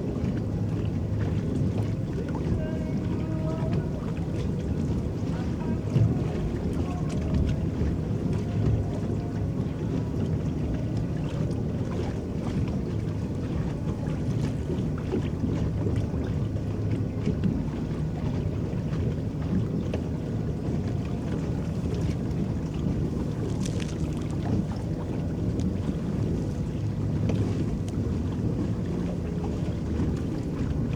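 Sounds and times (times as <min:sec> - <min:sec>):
churning water rumble: 0:00.0 - 0:30.9
water lapping along hull: 0:00.0 - 0:30.9.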